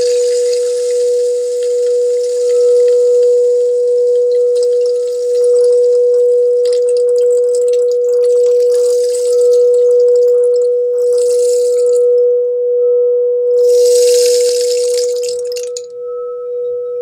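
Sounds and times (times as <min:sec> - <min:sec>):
singing bowl steady tone: 0:00.0 - 0:17.0.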